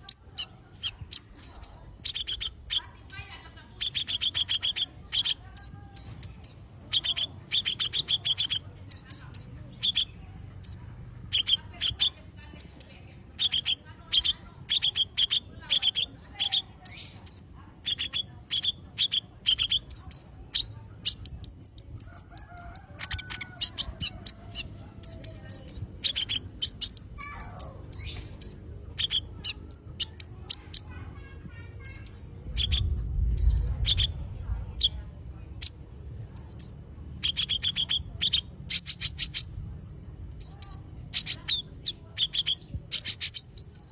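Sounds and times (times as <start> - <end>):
songbird chirping: 0.0 - 43.9.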